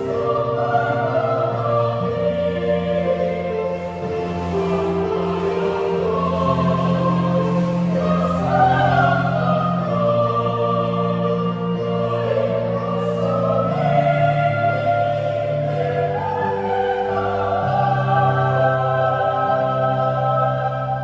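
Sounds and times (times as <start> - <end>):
mixed choir singing in harmony: 0.0 - 21.0.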